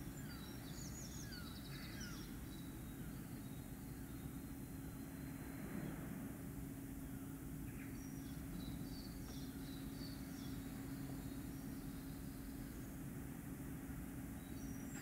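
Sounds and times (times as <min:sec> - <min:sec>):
steady low hum and rumble: 0:00.0 - 0:15.0.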